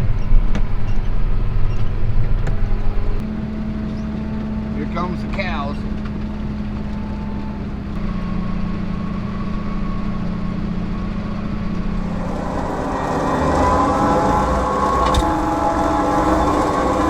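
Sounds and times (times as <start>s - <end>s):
mechanical whine: 0.0s - 17.0s
tractor engine running: 0.0s - 17.0s.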